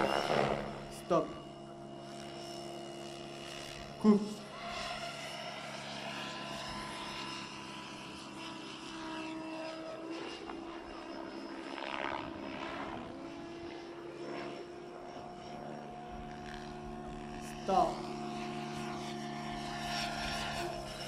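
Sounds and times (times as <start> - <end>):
model helicopter motor whine: 0.0 - 21.0.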